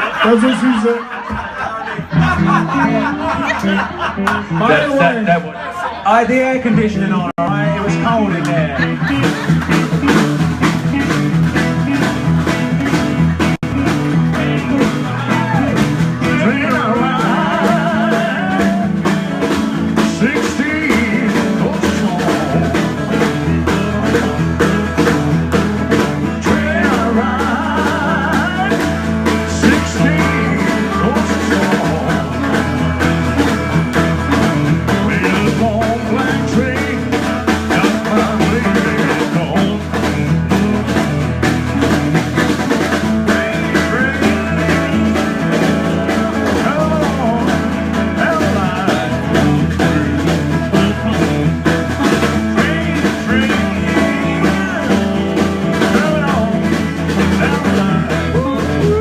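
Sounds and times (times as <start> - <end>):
live band playing blues rock: 0.0 - 59.0
electric guitar: 1.3 - 6.0, 6.7 - 59.0.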